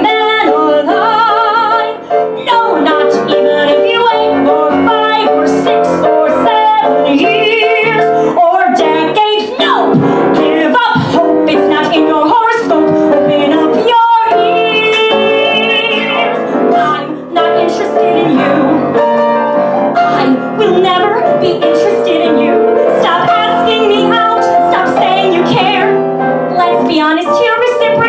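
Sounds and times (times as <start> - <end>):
woman singing: 0.0 - 19.0, 20.0 - 28.0
piano accompaniment: 0.0 - 28.0.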